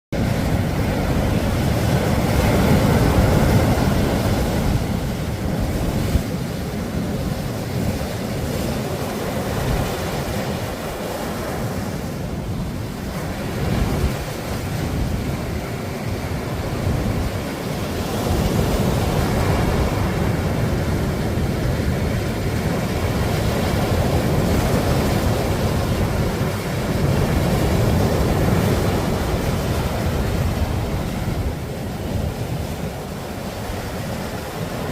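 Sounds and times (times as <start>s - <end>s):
sea waves breaking on beach: 0.2s - 34.9s
wind buffeting microphone: 0.2s - 34.9s.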